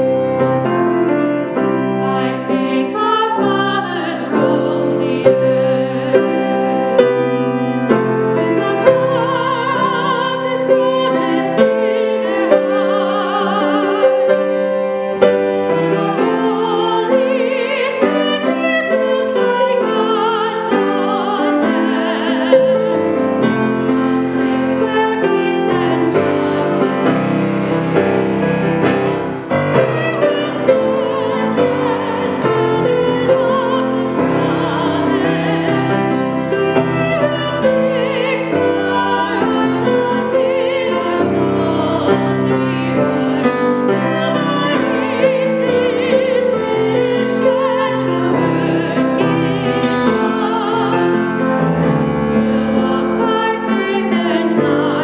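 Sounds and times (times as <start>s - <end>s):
piano accompaniment: 0.0s - 55.0s
women singing with vibrato: 1.1s - 55.0s.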